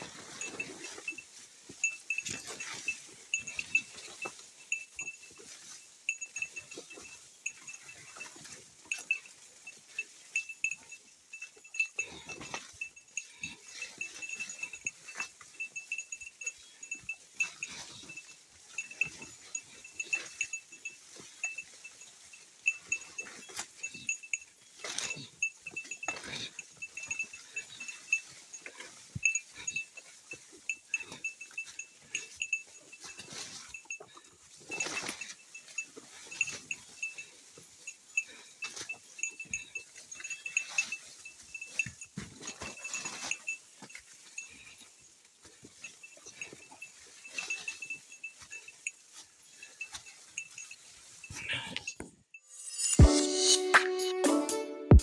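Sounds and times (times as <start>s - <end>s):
bear bell jingling: 0.0s - 55.0s
footsteps on trail: 0.0s - 55.0s.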